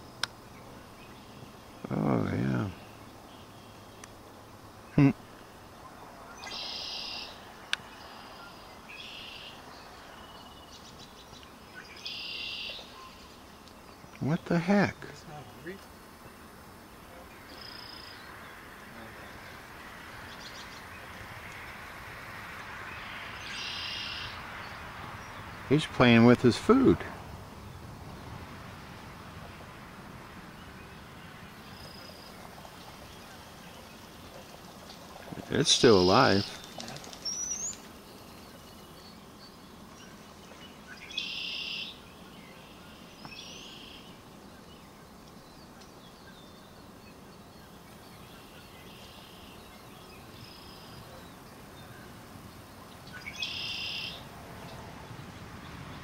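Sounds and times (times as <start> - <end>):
faint outdoor background noise: 0.0 - 56.0.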